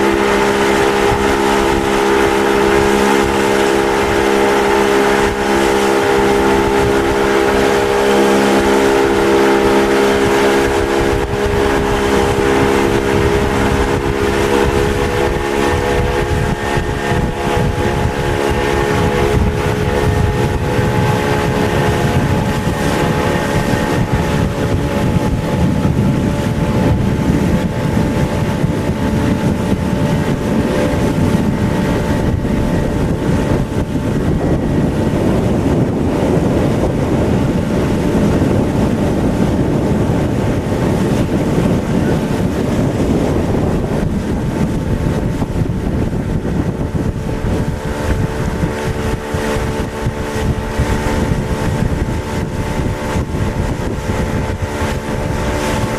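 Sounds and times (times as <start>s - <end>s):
motorboat engine drone: 0.0s - 55.9s
wind buffeting microphone: 0.0s - 55.9s.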